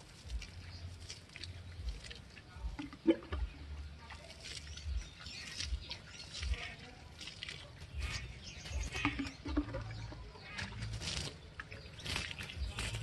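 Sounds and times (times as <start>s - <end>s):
water splashing onto straw: 0.0s - 13.0s.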